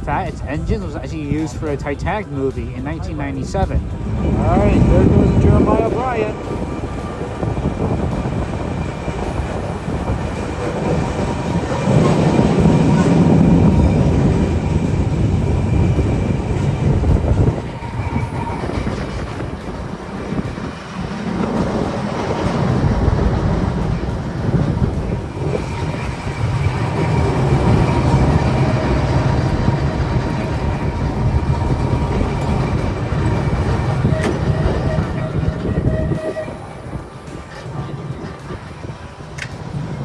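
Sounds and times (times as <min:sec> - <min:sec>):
faint whine: 0:00.0 - 0:39.8
tram wheels rumbling on rails: 0:00.0 - 0:40.0.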